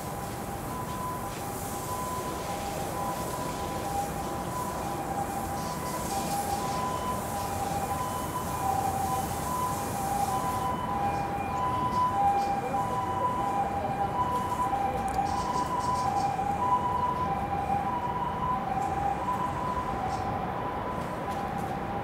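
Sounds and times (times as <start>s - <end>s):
two-tone hi-lo siren: 0.0s - 22.0s.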